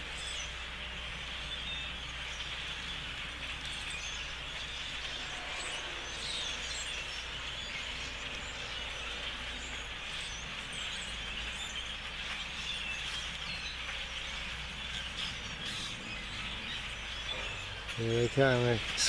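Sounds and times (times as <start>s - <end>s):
flock of birds chattering: 0.0s - 19.0s.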